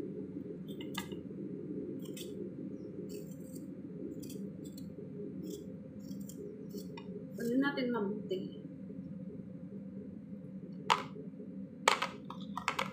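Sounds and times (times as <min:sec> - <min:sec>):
low background hum: 0:00.0 - 0:12.9.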